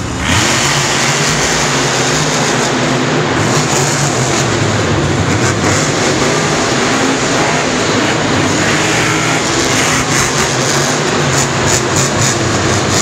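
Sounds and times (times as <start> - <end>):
monster truck engines at full throttle: 0.0 - 13.0.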